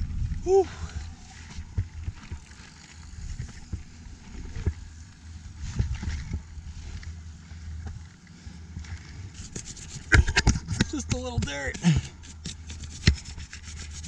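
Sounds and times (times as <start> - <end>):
wind rumble on microphone: 0.0 - 12.1.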